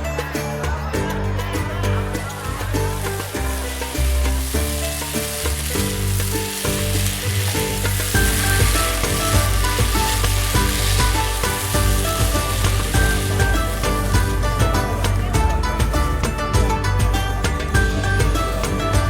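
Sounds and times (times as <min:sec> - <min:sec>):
background music with bass chords: 0:00.0 - 0:19.0
food sizzling in a pan: 0:01.5 - 0:19.0.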